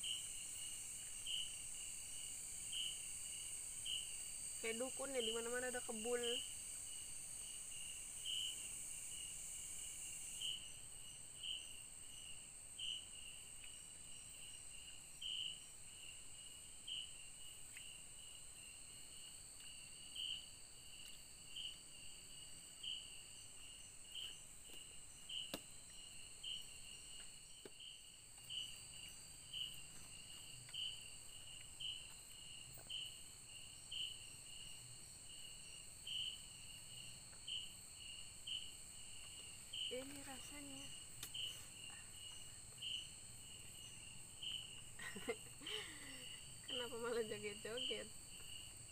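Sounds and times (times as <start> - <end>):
insect chirp: 0.0 - 48.9
insects droning: 0.0 - 48.9.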